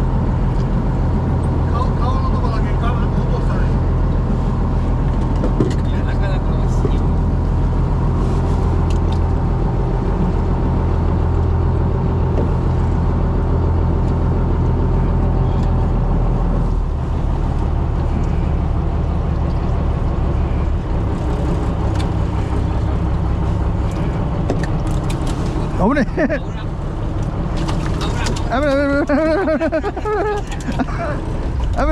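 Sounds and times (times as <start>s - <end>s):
boat engine humming: 0.0s - 31.9s.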